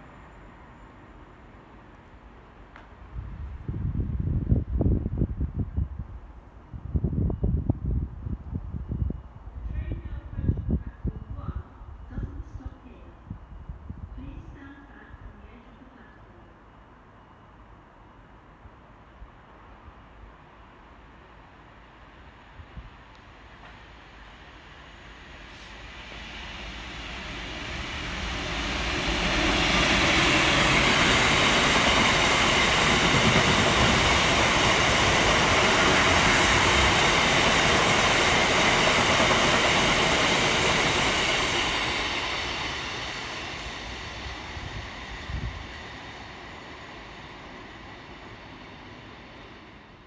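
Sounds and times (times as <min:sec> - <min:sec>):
freight train passing: 0:00.0 - 0:50.0.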